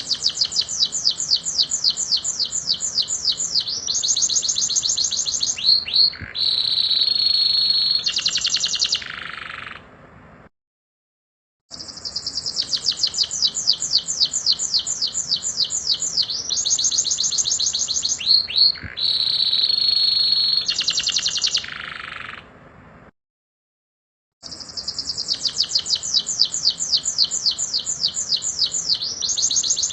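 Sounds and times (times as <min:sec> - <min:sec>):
canary singing trills: 0:00.0 - 0:09.9, 0:11.7 - 0:22.5, 0:24.4 - 0:29.9.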